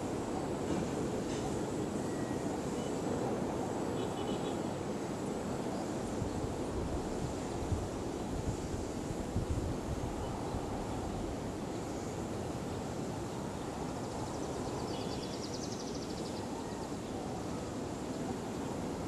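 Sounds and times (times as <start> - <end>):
outdoor background rush: 0.0 - 19.0.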